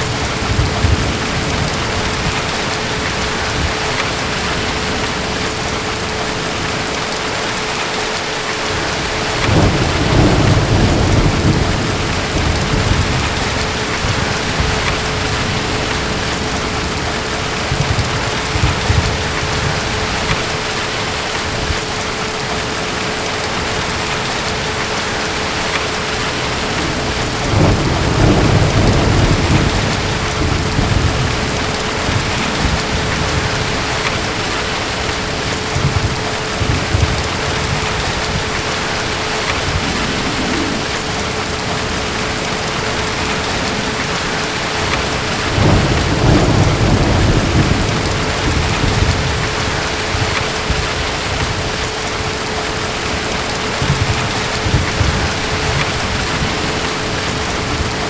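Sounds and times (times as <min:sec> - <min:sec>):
distant thunder rumbling: 0:00.0 - 0:58.0
heavy rain: 0:00.0 - 0:58.0.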